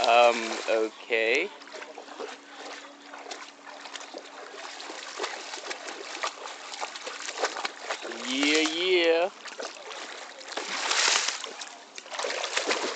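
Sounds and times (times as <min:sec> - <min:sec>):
dog splashing through water: 0:00.0 - 0:12.9.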